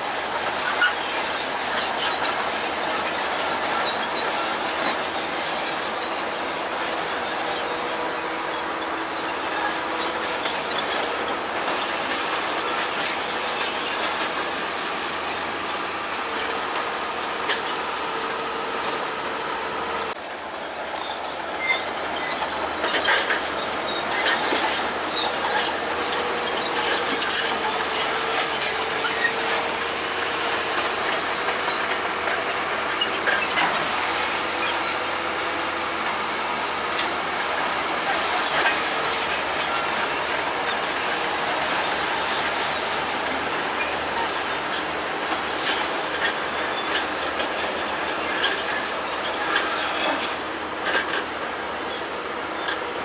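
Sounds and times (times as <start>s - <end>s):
bulldozer engine running: 0.0s - 53.0s
squealing whine from tracks: 0.0s - 53.0s
steel tracks clanking: 0.0s - 53.0s.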